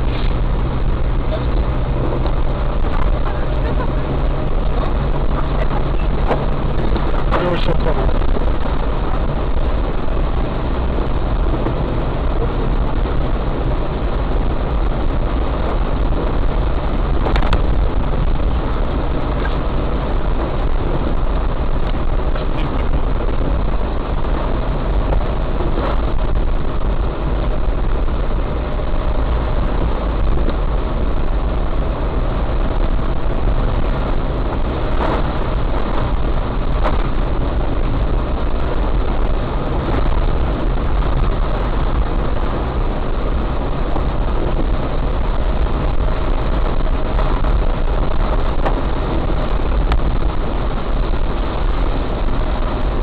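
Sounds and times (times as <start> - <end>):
engine and road noise: 0.0 - 53.0
heavy rain falling on a car: 0.0 - 53.0.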